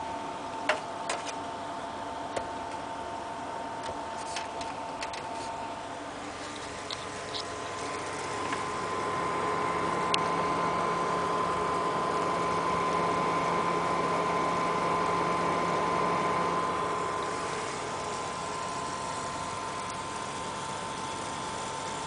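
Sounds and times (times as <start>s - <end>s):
water pump whining: 4.2s - 22.0s.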